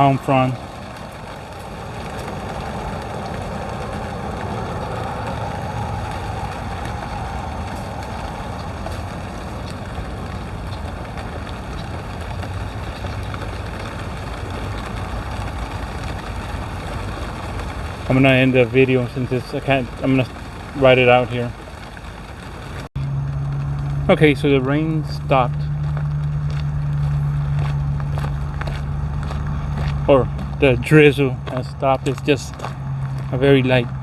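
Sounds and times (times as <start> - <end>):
low rumble: 0.0 - 34.0
raindrops tapping: 0.0 - 34.0
steady rain hissing: 0.0 - 34.0.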